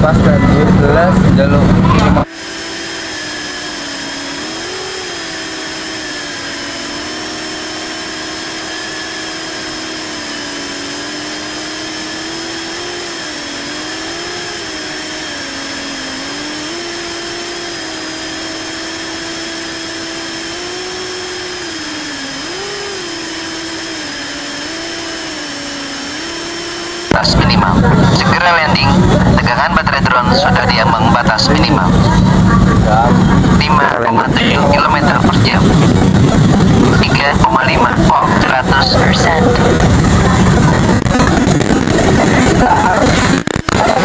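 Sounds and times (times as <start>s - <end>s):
quadcopter motors buzzing: 0.0s - 44.0s.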